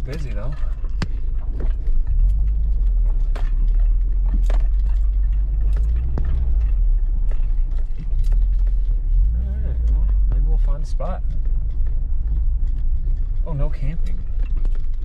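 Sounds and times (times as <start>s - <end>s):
low rumble inside car cabin: 0.0s - 15.0s.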